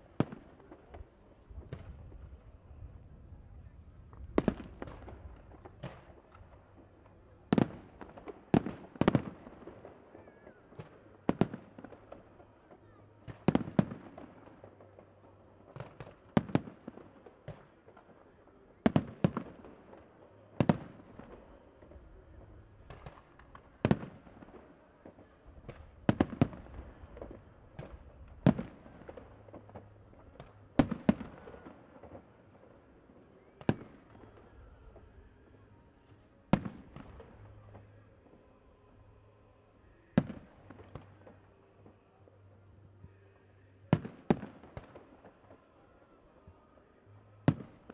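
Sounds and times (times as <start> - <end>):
fireworks bursting with bangs: 0.0 - 2.7, 4.2 - 35.3, 36.0 - 38.5, 40.0 - 42.0, 43.9 - 47.9.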